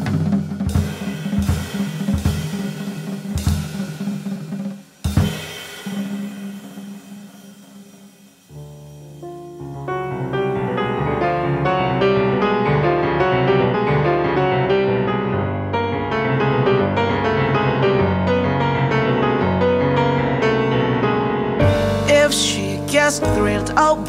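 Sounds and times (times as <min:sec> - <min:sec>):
jazz piano music: 0:00.0 - 0:03.8, 0:05.1 - 0:24.0.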